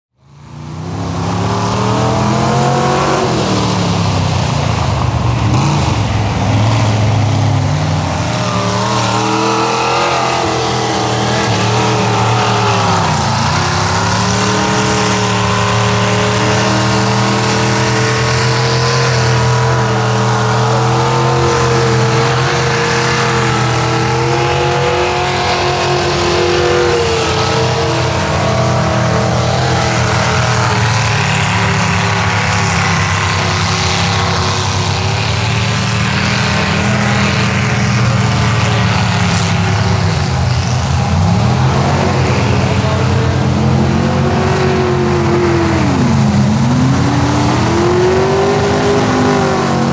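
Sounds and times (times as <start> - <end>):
truck engine revving: 0.2 - 49.9.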